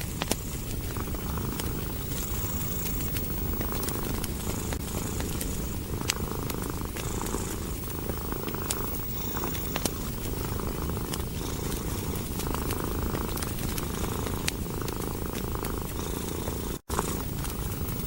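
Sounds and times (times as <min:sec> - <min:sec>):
cat purring: 0:00.0 - 0:18.0
wood fire crackling: 0:00.0 - 0:18.0.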